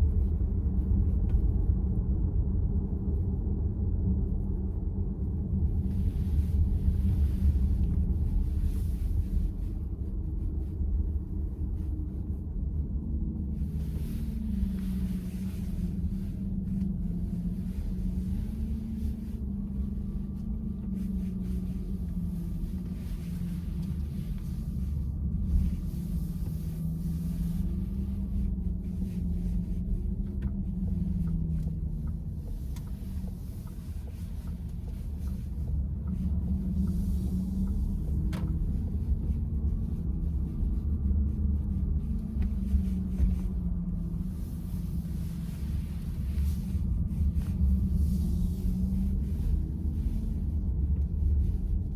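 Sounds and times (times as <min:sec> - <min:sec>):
low wavering hum: 0:00.0 - 0:51.9
road and tyre rumble: 0:00.0 - 0:51.9.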